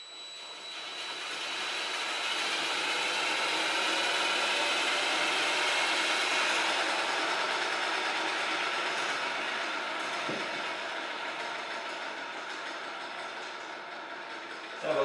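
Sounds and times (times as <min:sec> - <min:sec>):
drill motor running: 0:00.0 - 0:15.0.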